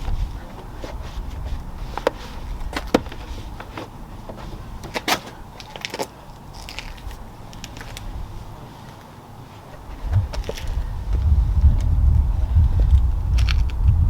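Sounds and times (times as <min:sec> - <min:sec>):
wind rumble on microphone: 0:00.0 - 0:05.6, 0:06.3 - 0:14.0.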